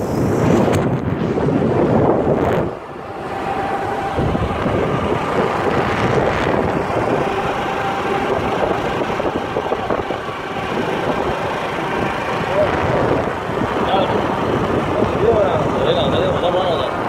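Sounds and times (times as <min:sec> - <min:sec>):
faint steady whine: 0:00.0 - 0:17.0
vehicle engine and tyre noise: 0:00.0 - 0:17.0
wind noise on microphone: 0:00.0 - 0:17.0.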